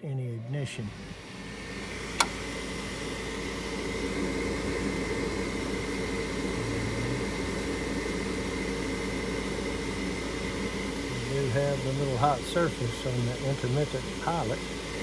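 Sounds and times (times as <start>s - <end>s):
fan motor humming with hiss: 0.0s - 15.0s.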